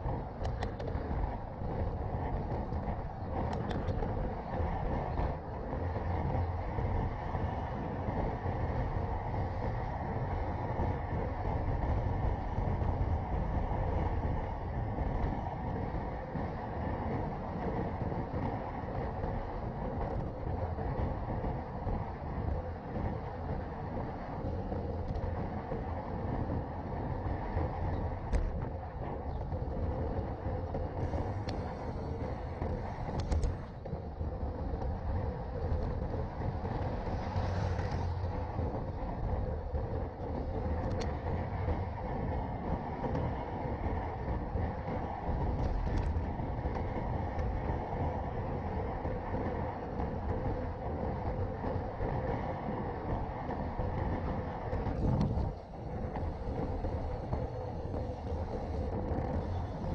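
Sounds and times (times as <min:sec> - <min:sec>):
bike tyres rolling on asphalt: 0:00.0 - 0:59.9
wind rumble on microphone: 0:00.0 - 0:59.9.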